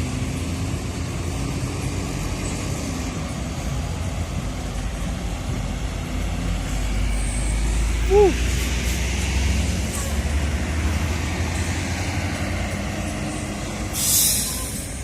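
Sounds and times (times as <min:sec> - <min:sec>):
buses rumbling past: 0:00.0 - 0:15.0
road traffic noise: 0:00.0 - 0:15.0.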